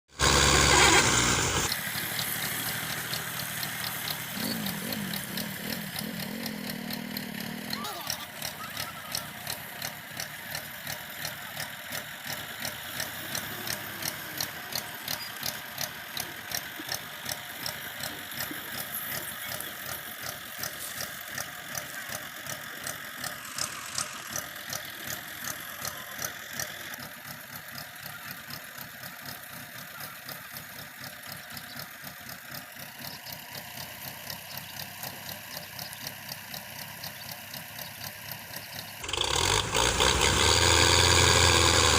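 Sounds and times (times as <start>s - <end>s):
diesel tractor engine knocking: 0.2s - 41.9s.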